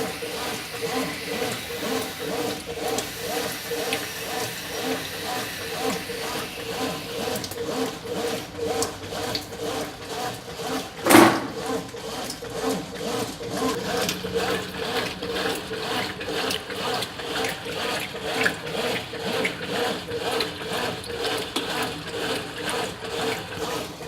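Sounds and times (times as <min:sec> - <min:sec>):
washing machine agitating: 0:00.0 - 0:24.0.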